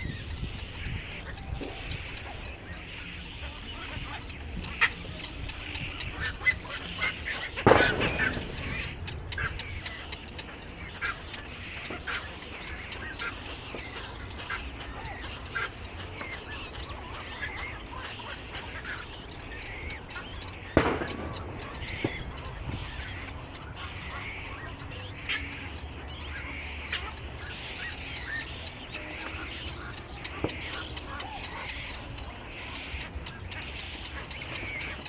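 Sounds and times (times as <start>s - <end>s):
many birds chirping: 0.0s - 35.0s
steady low rumble: 0.0s - 35.0s.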